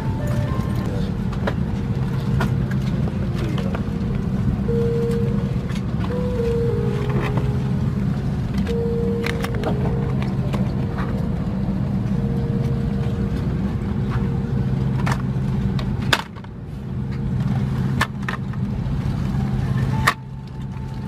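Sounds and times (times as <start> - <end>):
airliner cabin hum: 0.0 - 21.0.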